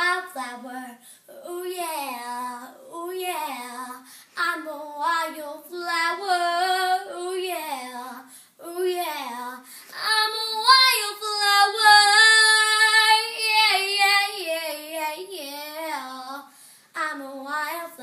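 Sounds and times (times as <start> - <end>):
girl singing: 0.0 - 18.0.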